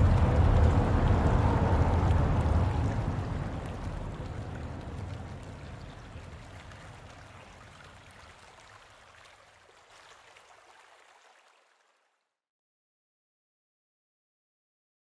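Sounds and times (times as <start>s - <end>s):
flowing water trickling: 0.0s - 12.2s.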